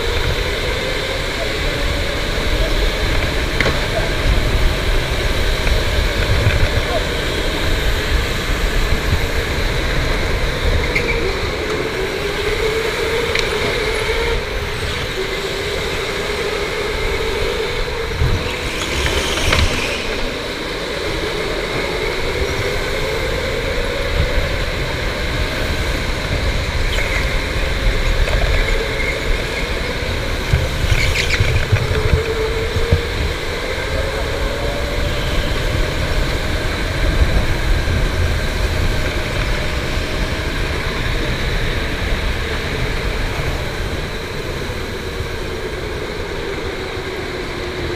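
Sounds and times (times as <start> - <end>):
electric go-kart motor whining: 0.0 - 47.9
low rumble of kart on track: 0.0 - 47.9.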